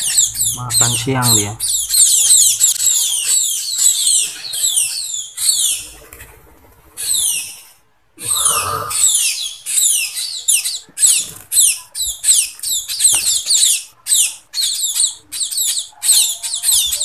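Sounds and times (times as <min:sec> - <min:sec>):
young birds chirping squeaks: 0:00.0 - 0:06.4, 0:07.0 - 0:17.0.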